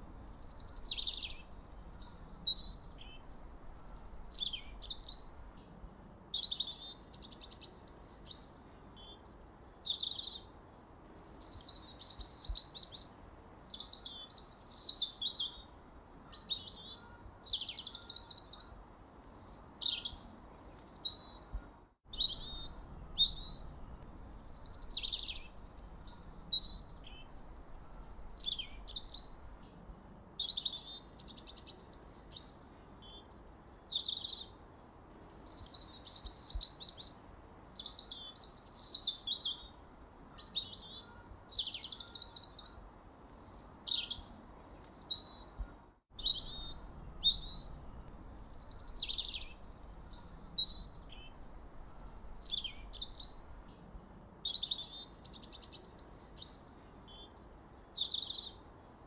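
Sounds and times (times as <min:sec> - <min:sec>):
songbird chirping and warbling: 0:00.0 - 0:10.5, 0:11.1 - 0:58.7
faint background hiss: 0:00.0 - 0:59.0.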